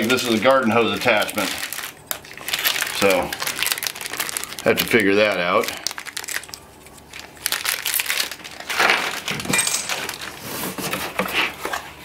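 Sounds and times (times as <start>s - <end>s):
packaging rustling and crinkling: 0.0s - 11.9s.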